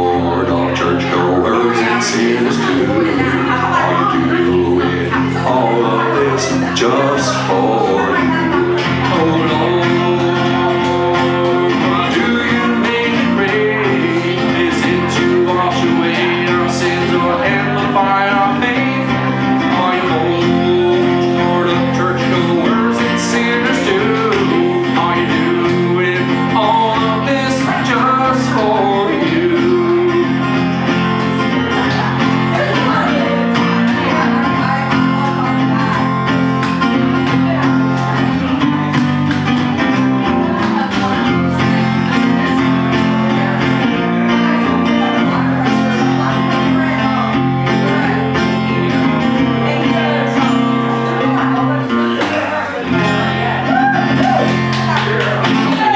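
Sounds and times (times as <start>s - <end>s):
guitar playing: 0.0s - 55.9s
man singing: 0.0s - 55.9s.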